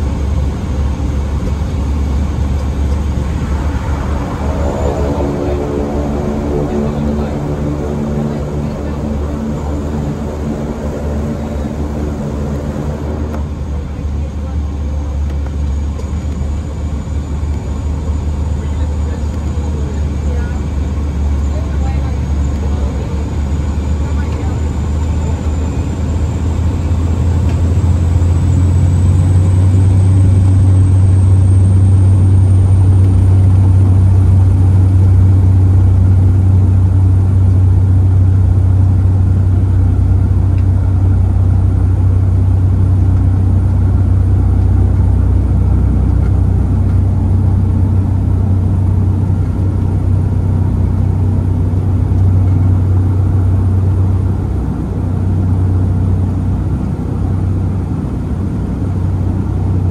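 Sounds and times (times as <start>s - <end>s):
high turbine whine: 0.0s - 59.9s
turboprop engine drone: 0.0s - 59.9s.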